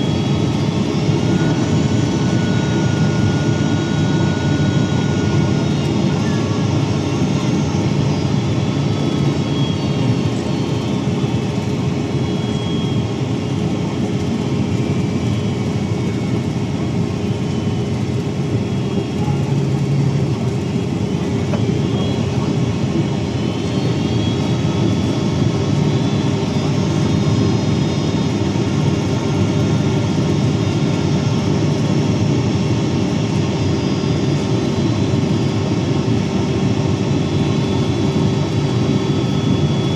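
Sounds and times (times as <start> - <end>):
jet engine roar and rushing air: 0.0 - 39.9.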